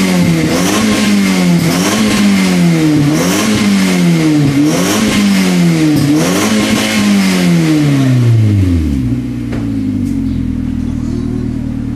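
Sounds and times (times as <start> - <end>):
car engine revving and idling: 0.0 - 11.9.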